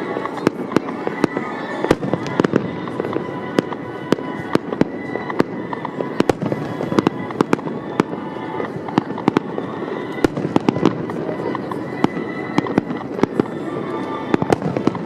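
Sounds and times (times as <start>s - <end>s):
fireworks bursting with bangs: 0.0s - 15.0s
music playing: 0.0s - 15.0s.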